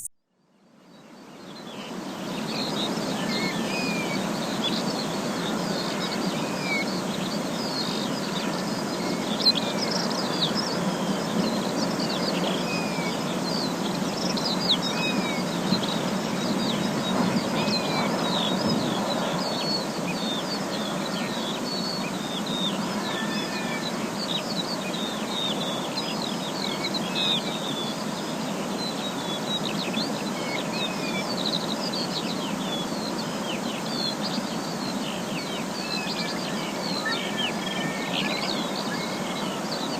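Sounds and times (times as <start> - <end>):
small birds chirping: 0.8 - 39.9.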